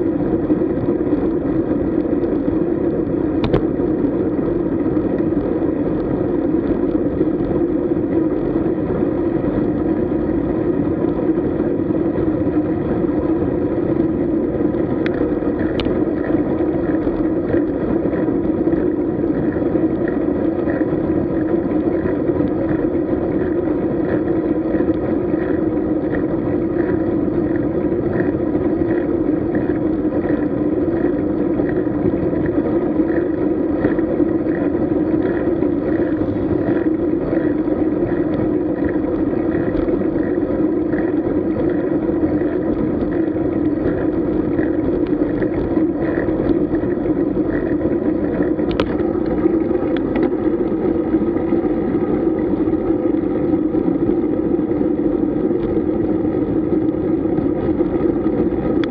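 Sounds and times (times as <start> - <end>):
bicycle road noise: 0.0 - 58.9
wind noise on microphone: 0.0 - 58.9.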